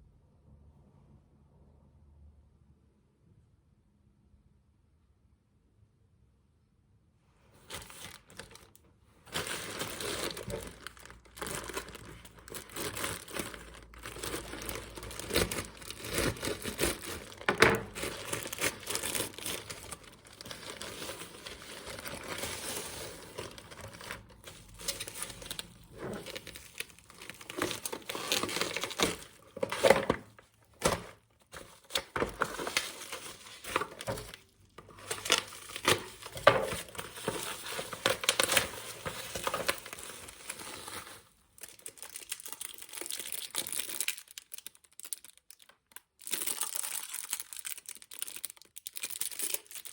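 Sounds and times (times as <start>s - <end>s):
packaging crinkling and rustling: 7.6s - 49.9s
packaging tearing: 7.6s - 49.9s.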